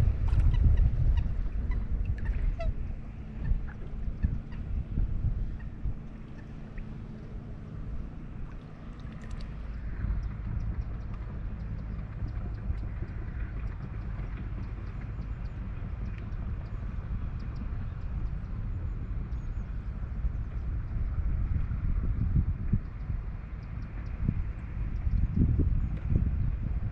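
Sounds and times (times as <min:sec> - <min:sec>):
steady low rumble: 0:00.0 - 0:26.9.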